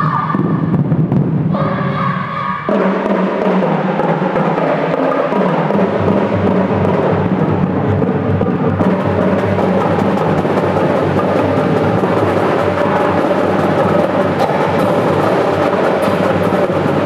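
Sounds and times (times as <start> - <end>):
snare and tenor drums: 2.6 - 17.0.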